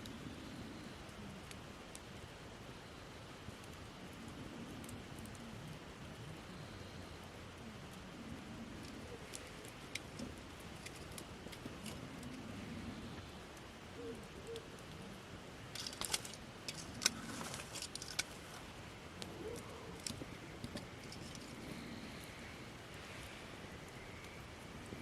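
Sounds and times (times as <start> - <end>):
campfire crackling and popping: 0.0 - 25.0
faint steady hiss: 0.0 - 25.0.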